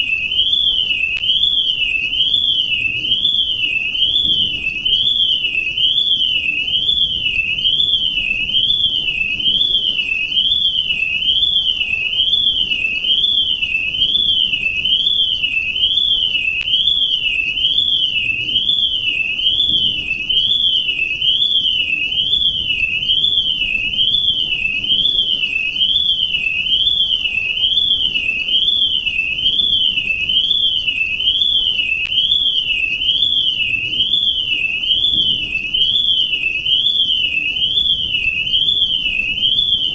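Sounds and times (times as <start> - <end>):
electronic alarm sweeping tone: 0.0 - 39.9.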